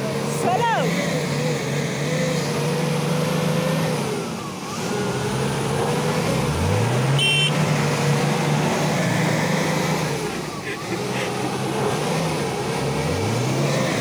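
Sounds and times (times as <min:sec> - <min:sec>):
suv engine revving under load: 0:00.0 - 0:14.0.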